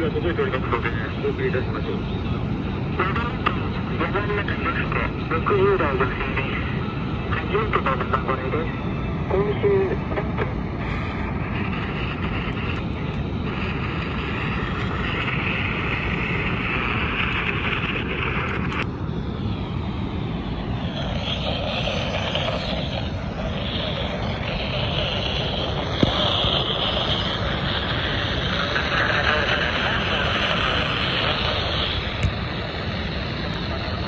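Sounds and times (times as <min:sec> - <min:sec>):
radio static and hiss: 0:00.0 - 0:34.0.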